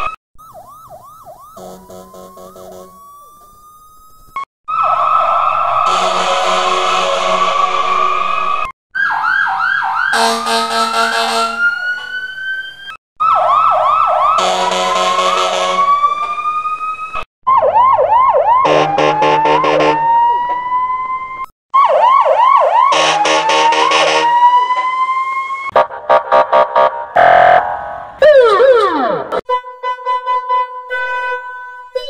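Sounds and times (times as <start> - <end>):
police siren yelps and wail: 0.0 - 29.4.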